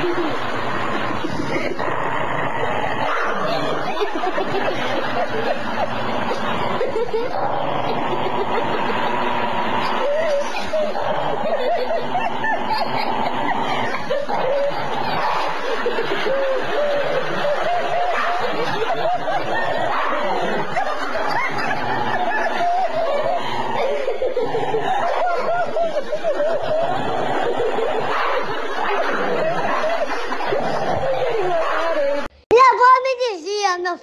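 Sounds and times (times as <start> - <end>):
person laughing in snickers: 0.0 - 2.0, 2.6 - 32.3.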